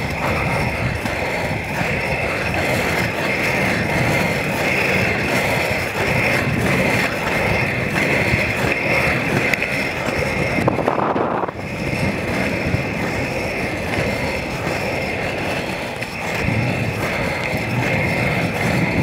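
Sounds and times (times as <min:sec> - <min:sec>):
skate wheels rolling on asphalt: 0:00.0 - 0:19.0
wind buffeting microphone: 0:00.0 - 0:19.0.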